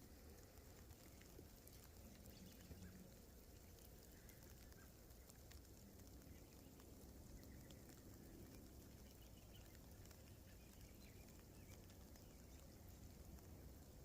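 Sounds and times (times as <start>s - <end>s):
faint outdoor background hiss: 0.0s - 14.0s
soft ticks: 0.0s - 14.0s.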